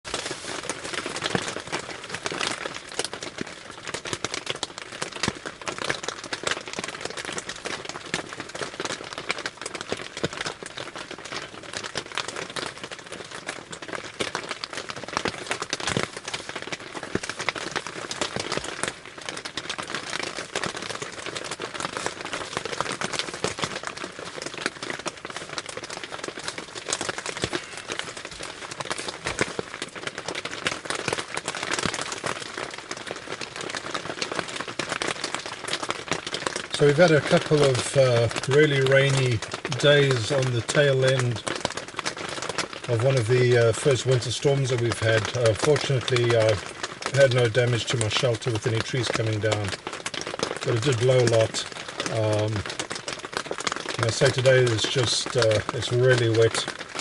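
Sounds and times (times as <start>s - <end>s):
rain pattering on a tarp: 0.0s - 57.0s.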